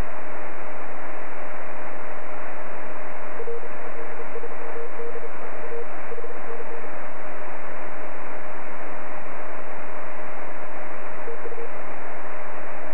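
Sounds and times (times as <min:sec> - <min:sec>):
constant carrier tone: 0:00.0 - 0:12.9
radio hiss: 0:00.0 - 0:12.9.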